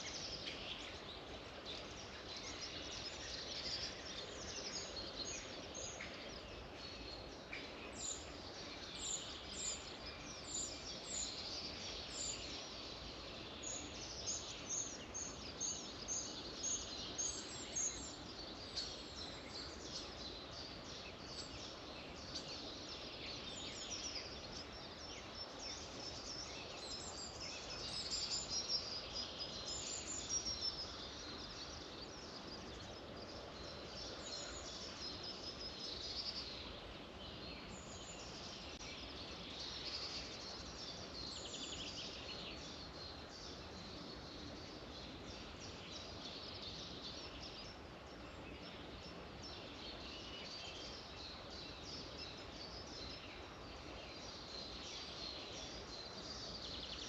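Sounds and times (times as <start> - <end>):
outdoor ambient hiss: 0.0 - 57.0
songbirds chirping and singing: 0.0 - 57.0.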